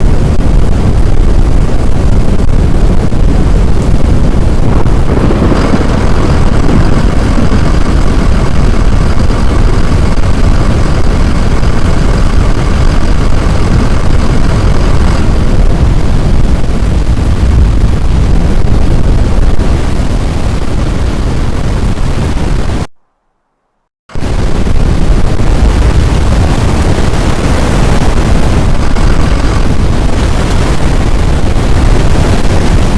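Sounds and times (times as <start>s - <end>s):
loud low rumbling: 0.0s - 22.9s, 24.1s - 32.9s.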